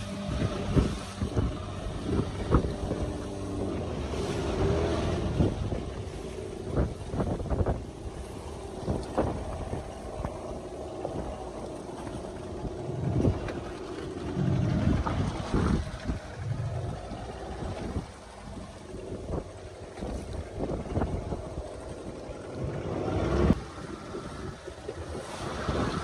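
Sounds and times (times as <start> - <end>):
boat engine humming: 0.0 - 26.0
wind buffeting microphone: 0.0 - 26.0.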